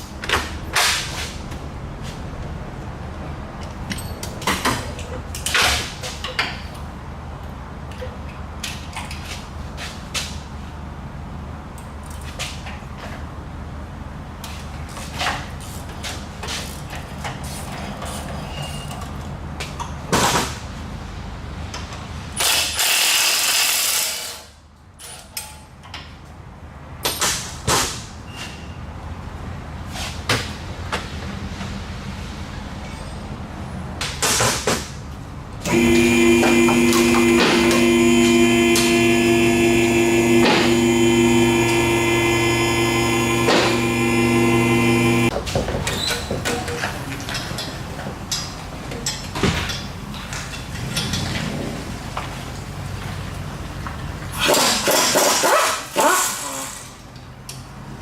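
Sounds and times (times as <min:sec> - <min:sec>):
low shop hum: 0:00.0 - 0:58.0.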